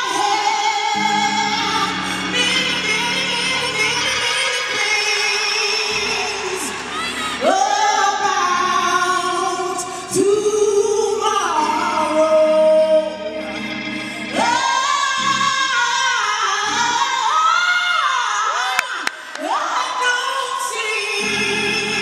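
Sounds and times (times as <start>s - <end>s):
gospel singing: 0.0s - 22.0s.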